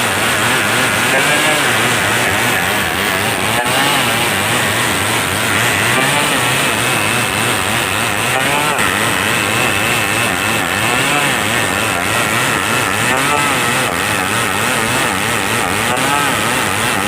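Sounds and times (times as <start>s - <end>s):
chainsaw running at high revs: 0.0s - 17.0s.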